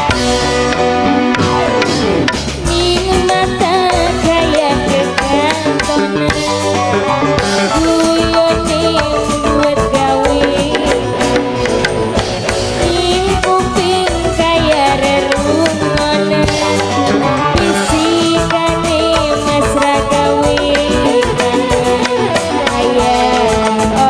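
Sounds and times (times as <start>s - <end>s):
hand-drum beat: 0.0s - 24.0s
wavering melody line: 0.0s - 24.0s.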